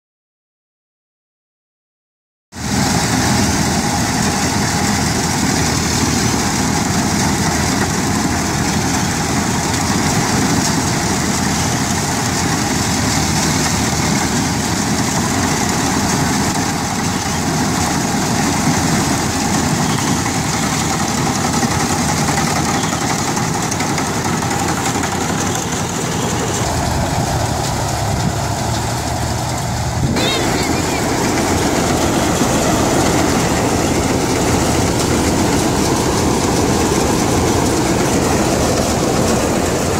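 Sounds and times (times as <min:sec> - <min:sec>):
combine harvester running: 0:02.6 - 0:39.9.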